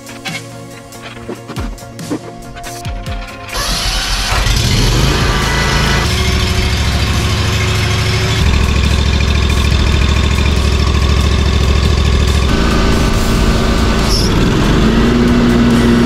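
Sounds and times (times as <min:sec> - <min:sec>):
mower engine running: 0:03.1 - 0:16.0.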